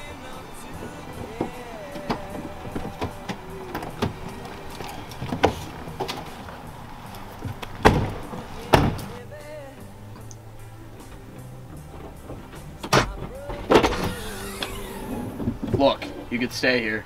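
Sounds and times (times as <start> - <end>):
car doors unlatching and opening: 0.0 - 9.2, 9.8 - 17.0
car doors shutting: 0.0 - 17.0.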